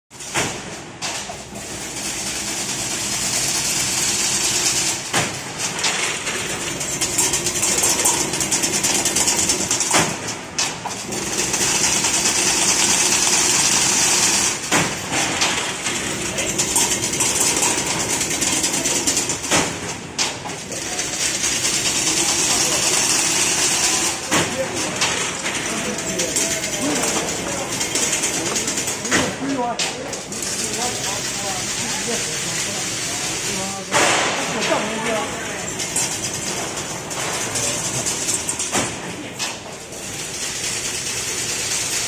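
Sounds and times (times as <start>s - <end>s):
fence weaving machine clattering: 1.5s - 42.0s.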